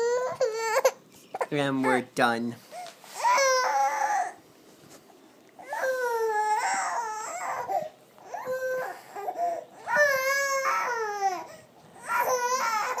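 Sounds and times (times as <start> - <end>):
infant crying: 0.0 - 2.2, 3.2 - 4.4, 5.6 - 13.0.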